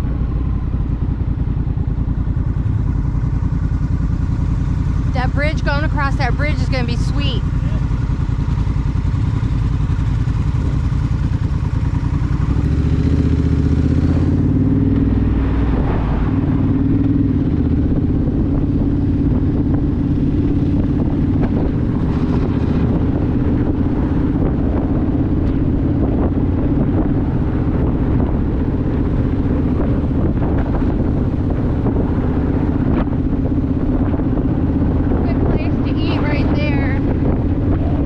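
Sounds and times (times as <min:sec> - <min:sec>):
motorcycle engine running: 0:00.0 - 0:38.0
wind noise: 0:00.0 - 0:38.0.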